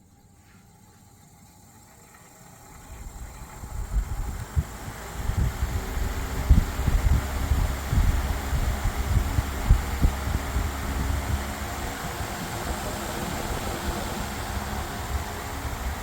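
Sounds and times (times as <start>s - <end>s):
electric fan whirring: 0.0s - 16.0s
faint hum: 0.0s - 16.0s
wind buffeting microphone: 3.0s - 16.0s.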